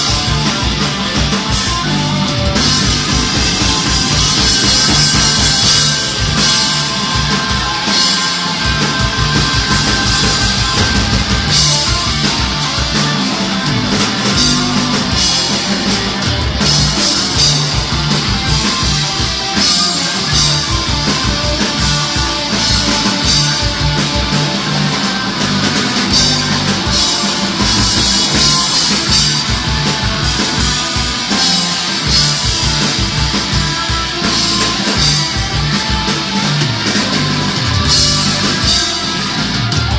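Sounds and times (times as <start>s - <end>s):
bass and drum beat: 0.0s - 39.9s
electric guitar: 0.0s - 39.9s.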